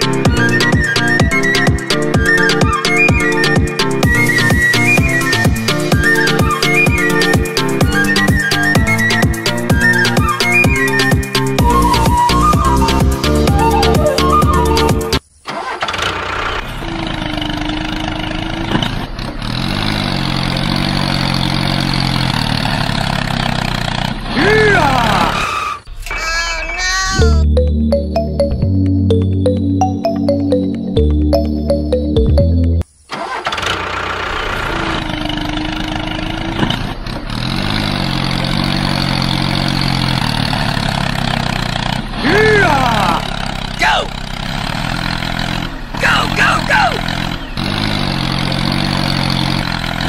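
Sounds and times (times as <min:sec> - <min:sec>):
tractor engine chugging: 0:00.0 - 0:50.0.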